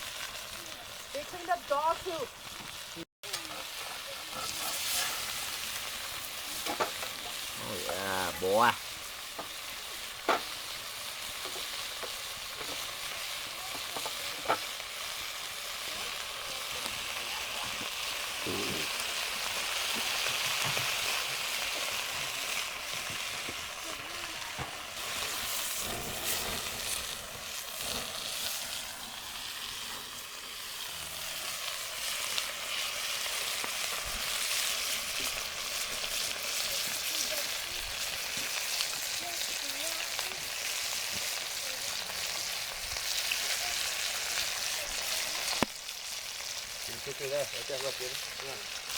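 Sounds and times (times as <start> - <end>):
fish sizzling in a pan: 0.0 - 48.9.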